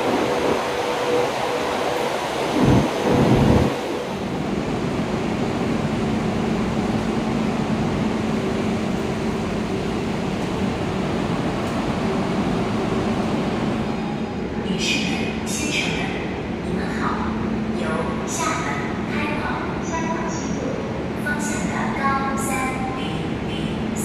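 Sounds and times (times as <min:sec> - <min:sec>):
train humming at platform: 0:00.0 - 0:24.0
train rushing through station: 0:00.0 - 0:24.0.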